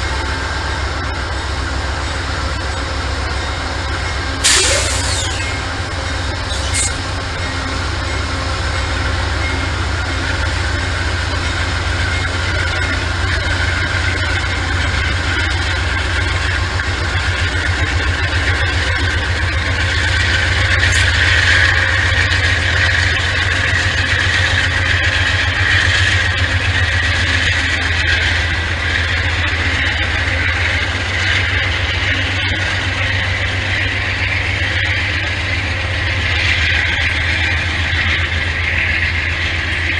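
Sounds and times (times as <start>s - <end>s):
diesel locomotive engine rumbling: 0.0s - 39.9s
high steady whine: 0.0s - 39.9s.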